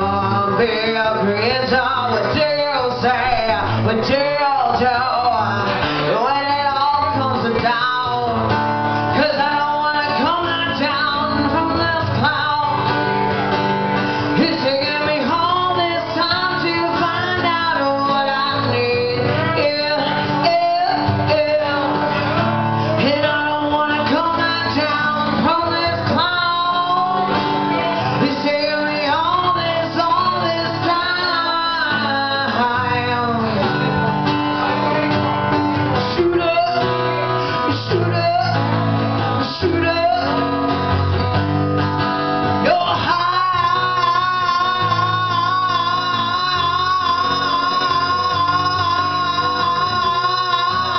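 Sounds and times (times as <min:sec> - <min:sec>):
electric guitar: 0:00.0 - 0:50.9
live band playing: 0:00.0 - 0:50.9.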